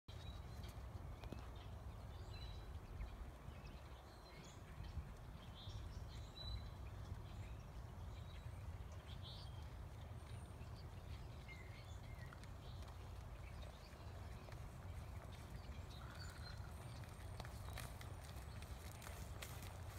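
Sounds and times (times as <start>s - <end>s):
bird chirps: 0.1s - 19.0s
horse hoofbeats on dirt: 0.1s - 19.9s.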